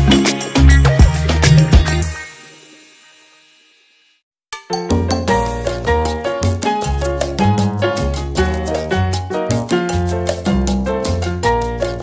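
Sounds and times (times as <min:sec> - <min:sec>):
background music with bass and beat: 0:00.0 - 0:02.5, 0:04.8 - 0:12.0.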